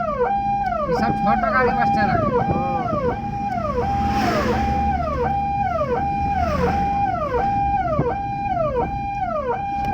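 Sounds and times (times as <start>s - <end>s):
ambulance siren wailing: 0.0s - 9.9s.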